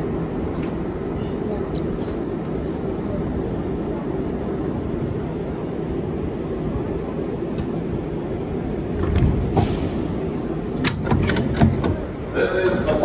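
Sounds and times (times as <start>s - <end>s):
subway train rumbling on track: 0.0s - 13.0s.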